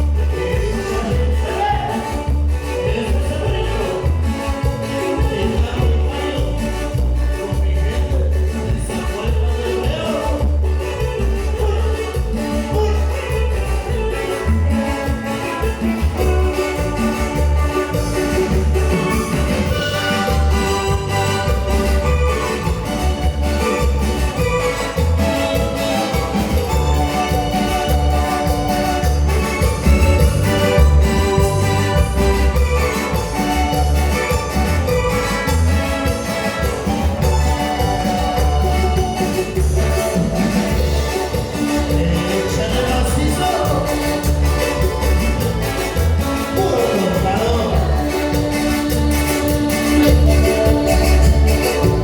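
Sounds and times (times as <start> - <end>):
latin dance band instrumental: 0.0 - 52.0
pulsing bass line: 0.0 - 52.0.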